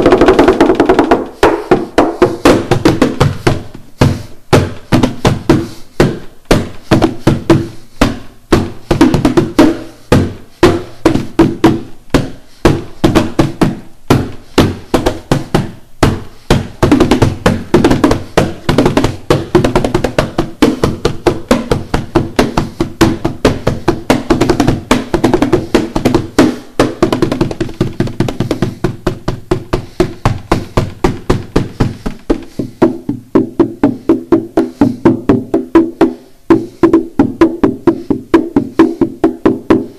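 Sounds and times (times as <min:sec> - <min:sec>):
hand percussion knocks and slaps: 0:00.0 - 0:39.9.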